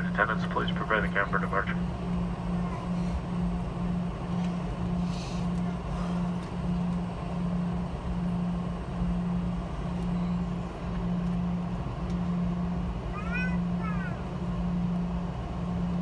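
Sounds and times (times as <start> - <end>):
jet engine rumble and hiss: 0.0 - 16.0
pulsing low hum: 0.0 - 16.0.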